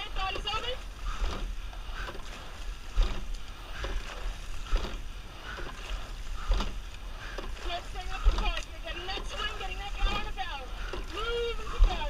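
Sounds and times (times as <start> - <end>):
oars knocking in oarlocks: 0.0 - 12.0
water rushing along hull: 0.0 - 12.0
wind rumbling on microphone: 0.0 - 12.0.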